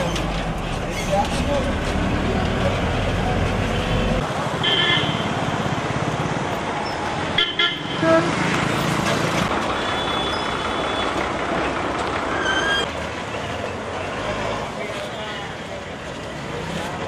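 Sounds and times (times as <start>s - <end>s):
bus engines and traffic: 0.0s - 17.0s.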